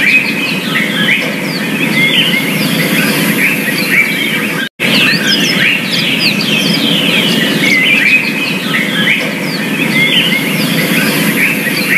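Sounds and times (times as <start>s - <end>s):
canary singing: 0.2s - 11.9s.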